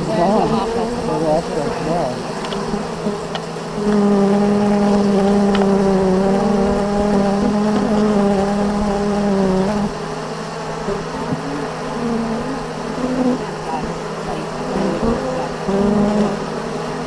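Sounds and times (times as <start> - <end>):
honeybees buzzing: 0.0 - 17.0
low hum of bee colony: 0.0 - 17.0.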